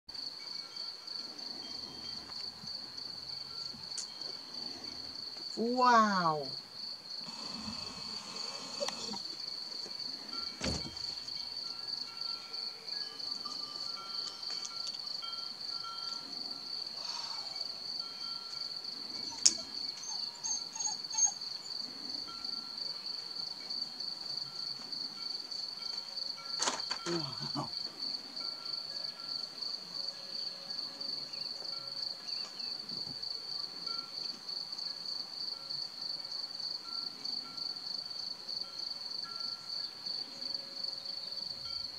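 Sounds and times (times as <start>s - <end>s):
crickets trilling: 0.1s - 41.9s.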